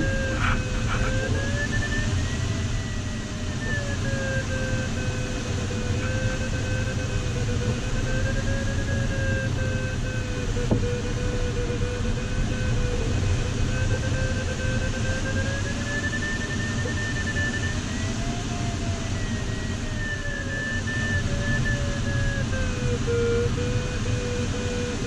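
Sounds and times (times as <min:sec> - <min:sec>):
electronic variometer tone: 0:00.0 - 0:25.0.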